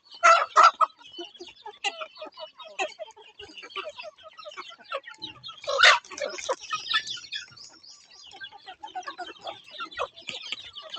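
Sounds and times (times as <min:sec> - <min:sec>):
birds clucking and calling: 0:00.0 - 0:10.9.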